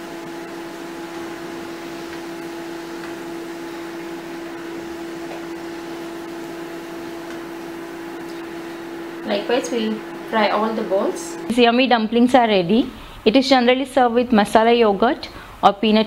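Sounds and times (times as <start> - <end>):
steady machine hum: 0.0 - 15.6.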